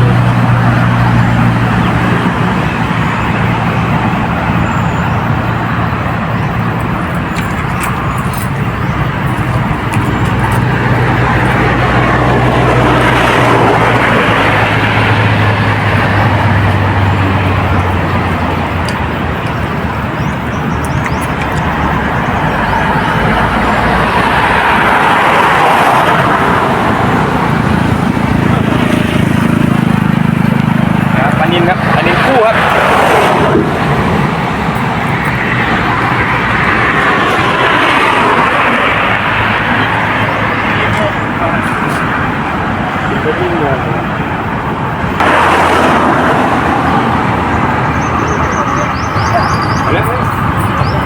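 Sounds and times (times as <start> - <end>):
road traffic engine hum: 0.0 - 51.0.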